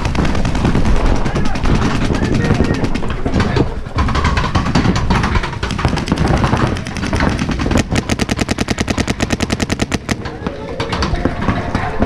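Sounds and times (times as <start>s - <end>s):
rapid string of marker shots: 0.0s - 10.2s
paintball markers firing: 0.0s - 12.0s.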